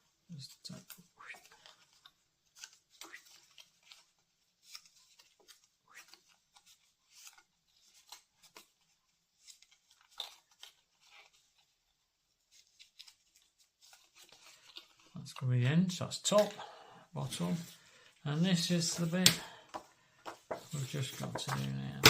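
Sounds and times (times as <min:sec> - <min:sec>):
card crackling and rustling: 0:00.3 - 0:16.6, 0:17.2 - 0:22.0.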